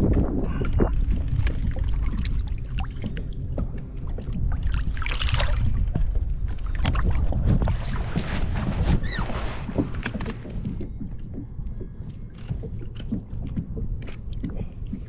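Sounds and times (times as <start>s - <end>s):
water splashing around a kayak: 0.0s - 15.0s
wind rumble on microphone: 0.0s - 15.0s.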